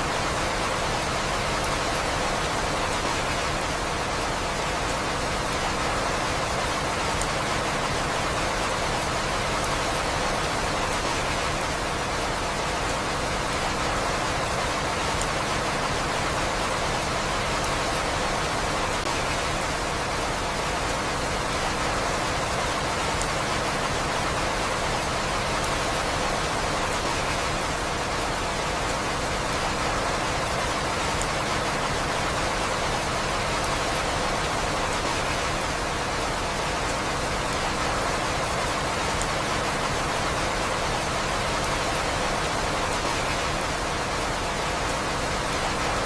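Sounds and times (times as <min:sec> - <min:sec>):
dense rain: 0:00.0 - 0:46.0.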